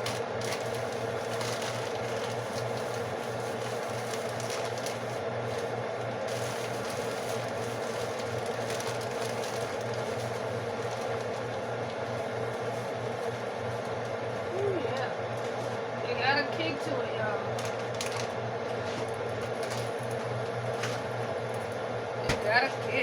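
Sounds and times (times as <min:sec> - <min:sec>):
mechanical hum with hiss: 0:00.0 - 0:23.0.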